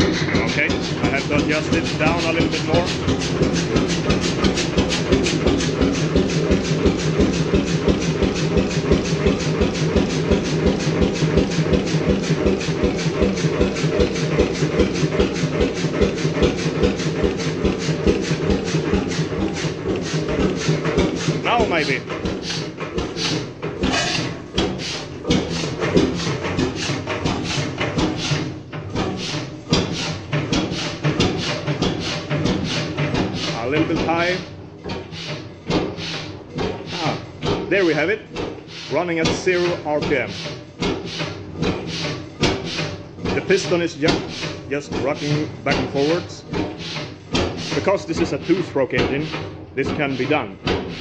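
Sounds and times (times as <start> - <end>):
oil engine knocking: 0.0 - 51.0.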